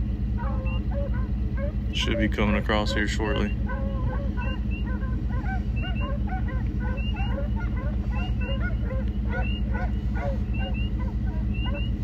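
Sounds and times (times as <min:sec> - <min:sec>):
distant hounds baying: 0:00.0 - 0:12.0
truck idling hum: 0:00.0 - 0:12.0.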